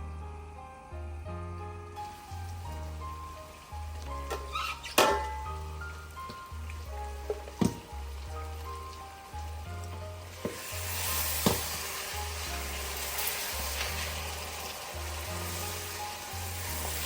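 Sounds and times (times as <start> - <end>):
background music: 0.0 - 17.0
food sizzling in oil: 2.0 - 17.0.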